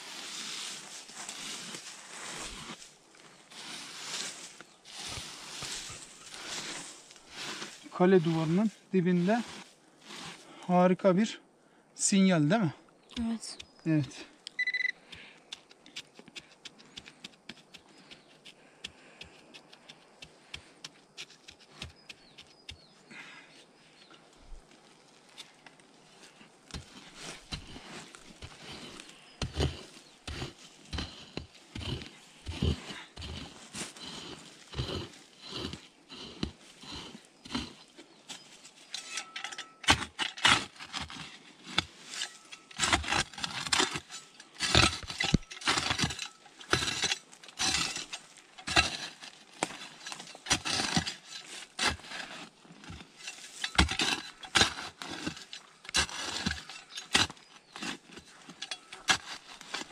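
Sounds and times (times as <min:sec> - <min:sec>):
digging stony soil by hand: 0:00.0 - 0:10.8, 0:13.1 - 0:23.4, 0:24.1 - 0:59.9.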